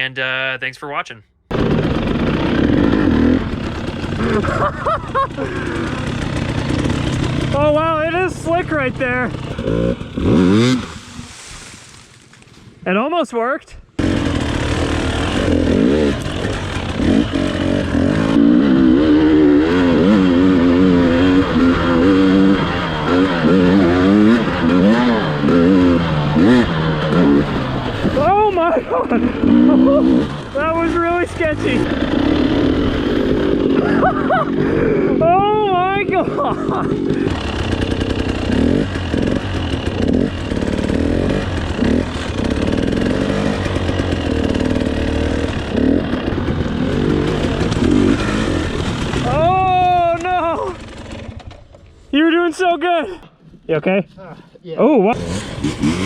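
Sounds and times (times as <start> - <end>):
dirt bike engine revving: 1.5 - 11.3, 14.0 - 51.8, 55.1 - 56.0.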